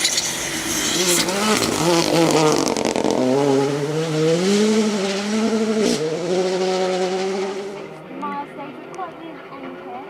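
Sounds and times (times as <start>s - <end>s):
rally car engine revving: 0.0s - 9.9s.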